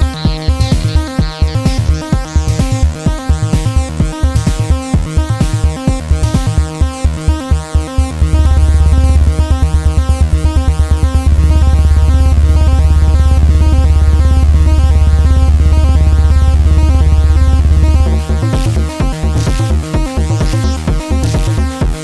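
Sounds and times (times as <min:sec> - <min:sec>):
drum machine beats: 0:00.0 - 0:13.5, 0:16.7 - 0:22.0
synth sequence: 0:00.0 - 0:22.0.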